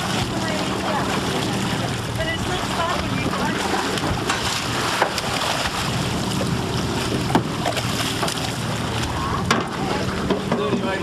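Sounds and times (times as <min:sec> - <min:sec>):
boat engine idling: 0:00.0 - 0:11.0
water splashing at hull: 0:00.0 - 0:11.0.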